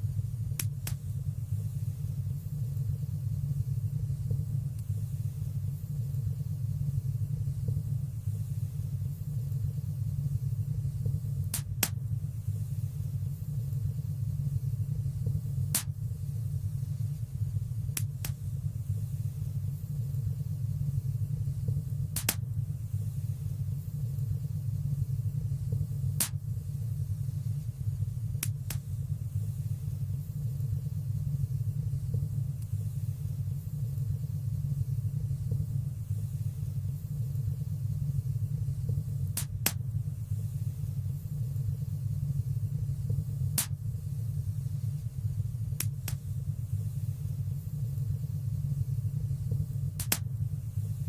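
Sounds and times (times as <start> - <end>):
fire burning in fireplace: 0.0 - 51.0.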